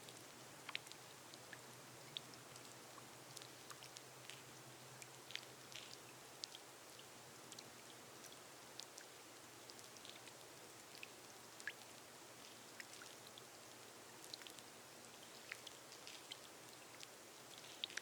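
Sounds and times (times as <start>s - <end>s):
rain on a glass roof: 0.0s - 18.0s.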